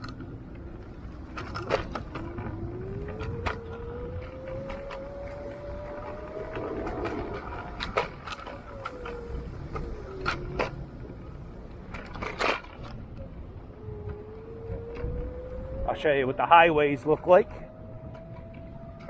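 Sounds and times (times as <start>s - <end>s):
low road rumble: 0.0s - 19.0s
scooter motor whine: 0.0s - 19.0s.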